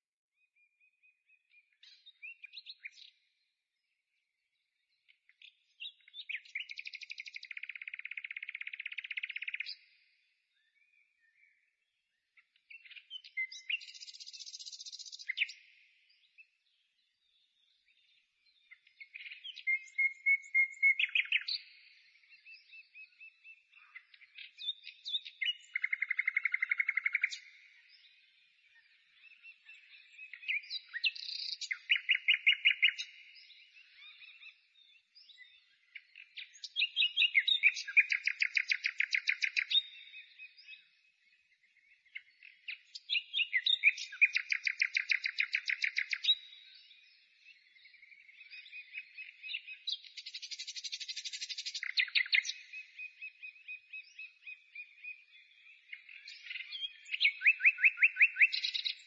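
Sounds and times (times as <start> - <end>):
bird chirps and trills: 5.3 - 11.6, 17.8 - 59.0.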